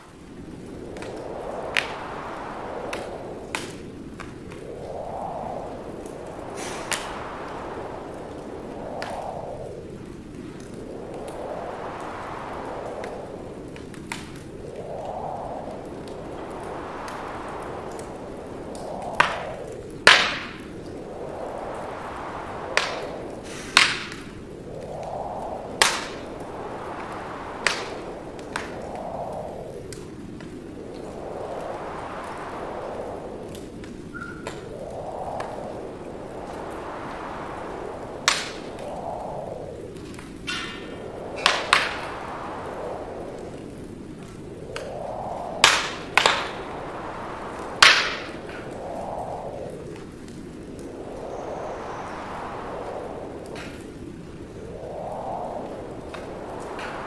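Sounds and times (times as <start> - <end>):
rushing wind: 0.0 - 57.0
wood fire crackling: 0.0 - 57.0
burning logs popping: 0.4 - 32.5, 33.4 - 49.2.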